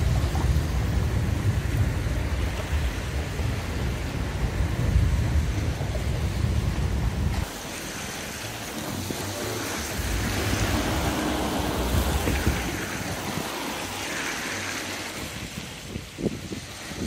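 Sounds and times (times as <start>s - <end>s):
choppy seawater rushing: 0.0s - 17.0s
wind buffeting the microphone: 0.0s - 17.0s.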